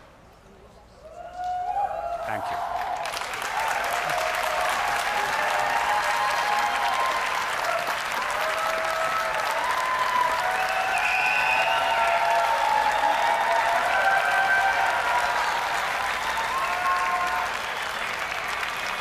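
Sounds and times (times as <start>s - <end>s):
audience applauding: 2.1s - 19.0s.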